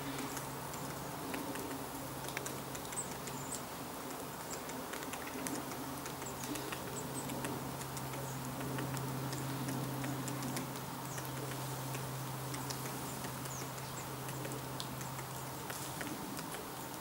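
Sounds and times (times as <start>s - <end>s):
woodpecker tapping on bark: 0.0s - 17.0s.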